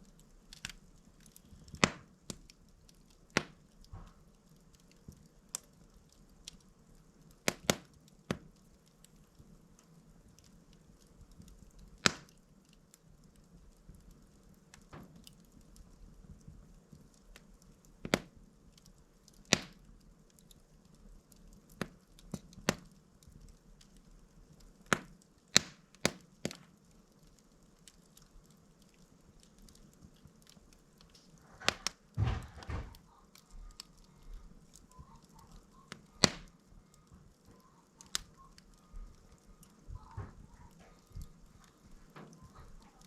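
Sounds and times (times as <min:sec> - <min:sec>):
log burning with pops and cracks: 0:00.0 - 0:43.0.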